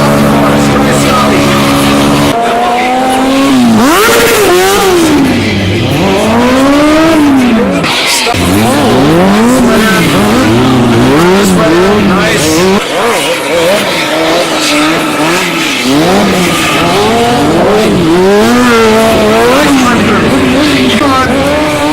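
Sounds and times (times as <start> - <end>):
motorcycles revving: 0.0 - 21.9.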